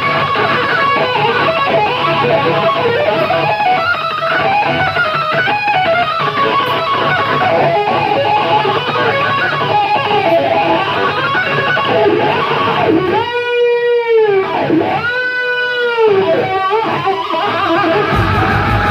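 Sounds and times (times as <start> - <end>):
electric guitar solo: 0.0 - 18.9.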